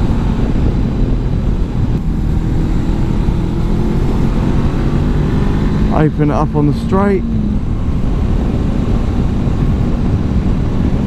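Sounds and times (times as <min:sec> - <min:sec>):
motorcycle engine cruising: 0:00.0 - 0:11.0
wind and road rush: 0:00.0 - 0:11.0.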